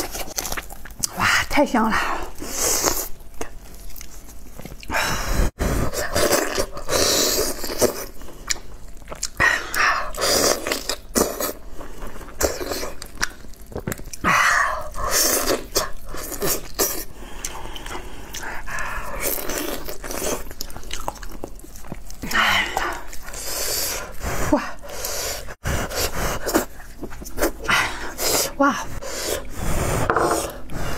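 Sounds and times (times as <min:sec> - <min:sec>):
person chewing: 0:00.0 - 0:01.2, 0:02.2 - 0:05.0, 0:05.9 - 0:30.9.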